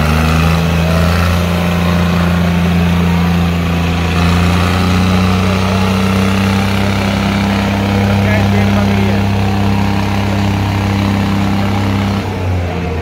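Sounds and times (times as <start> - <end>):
tractor diesel engines under load: 0.0 - 13.0.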